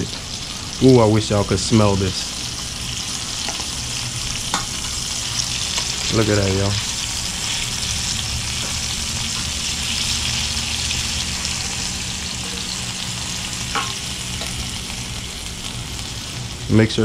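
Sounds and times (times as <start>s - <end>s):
fish fillets sizzling in oil: 0.0s - 16.7s.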